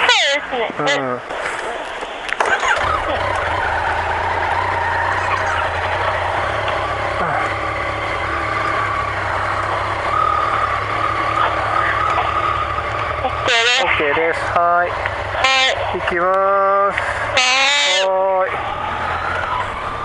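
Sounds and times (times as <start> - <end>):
motorcycle engine idling: 0.0 - 20.0
second motorcycle engine running: 0.0 - 20.0.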